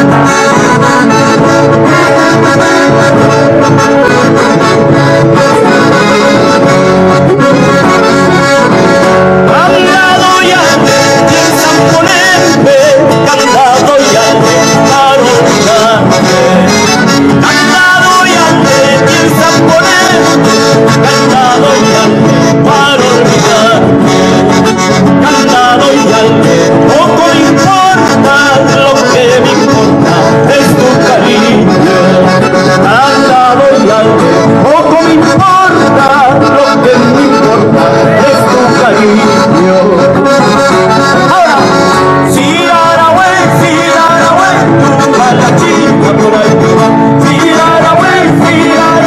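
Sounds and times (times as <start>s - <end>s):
music with steady beat: 0.0s - 49.0s.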